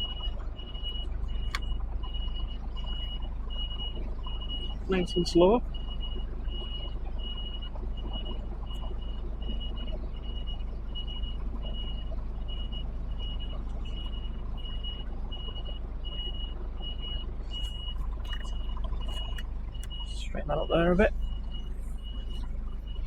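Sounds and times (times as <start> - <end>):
low steady rumble: 0.0 - 23.0
reversing alarm beeping: 0.0 - 23.0.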